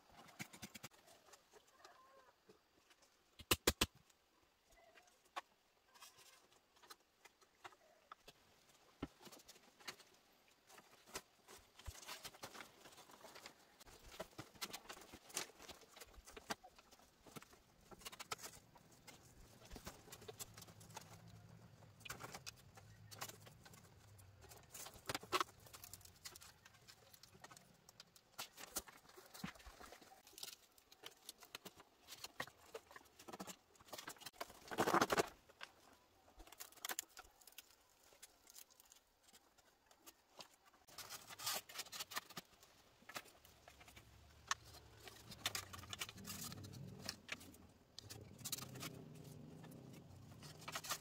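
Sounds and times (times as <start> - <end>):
bamboo poles knocking and rattling: 0.0 - 1.6, 5.3 - 51.0.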